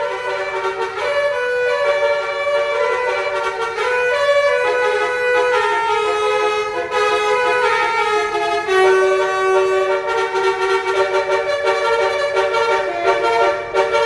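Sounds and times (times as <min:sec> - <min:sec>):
musical air horn playing tune: 0:00.0 - 0:14.0.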